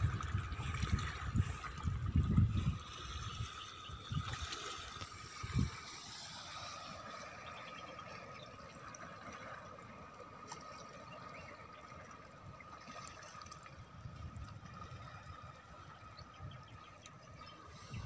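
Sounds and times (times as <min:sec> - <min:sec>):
seawater lapping among rocks: 0:00.0 - 0:18.0.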